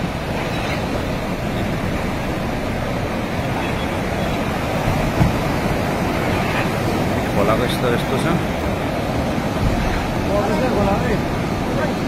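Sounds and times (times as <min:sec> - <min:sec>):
floodwater rushing around pillar: 0:00.0 - 0:12.0.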